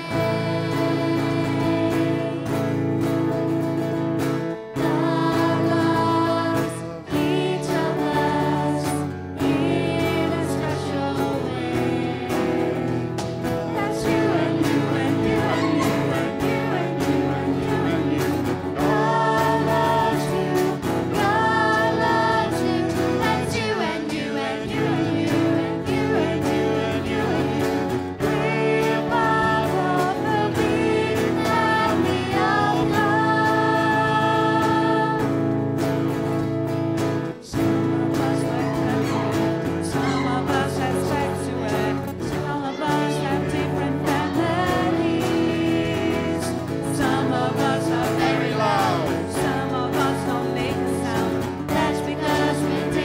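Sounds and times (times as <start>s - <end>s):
voices singing along: 0.0s - 2.6s, 4.7s - 35.5s, 37.4s - 53.0s
woman and girl singing: 0.0s - 2.6s, 4.8s - 35.3s, 37.5s - 53.0s
worship band playing: 0.0s - 53.0s.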